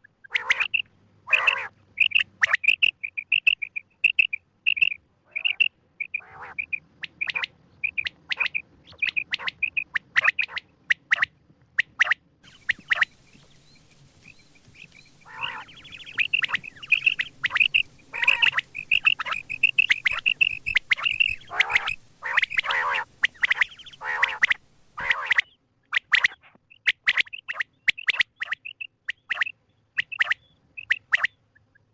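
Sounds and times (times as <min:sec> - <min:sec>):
quail calling: 0:00.0 - 0:31.4.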